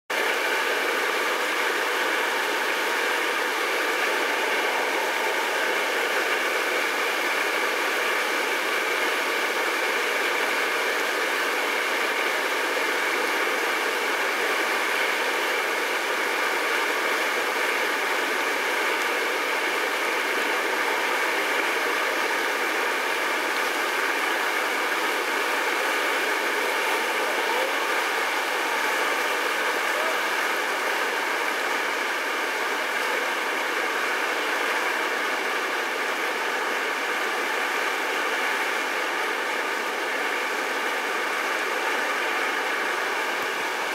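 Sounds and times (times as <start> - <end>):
river rapids rushing: 0.2 - 43.9.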